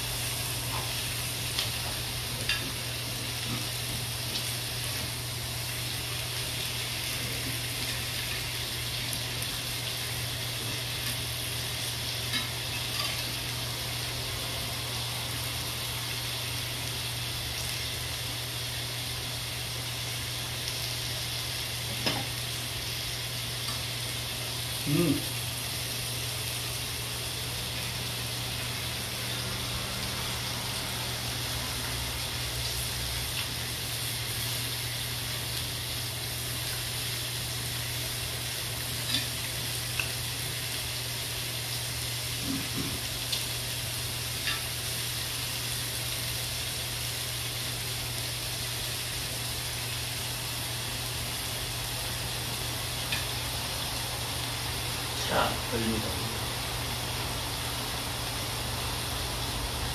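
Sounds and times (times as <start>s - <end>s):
skewers sizzling on a grill pan: 0.0s - 59.9s.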